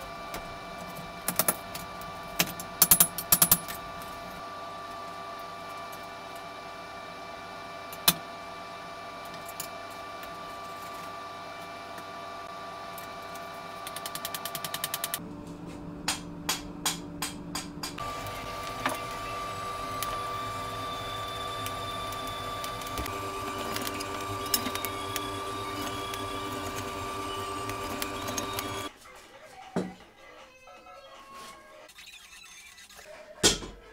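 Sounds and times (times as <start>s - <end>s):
air blower motor hum and whine: 0.0s - 28.9s.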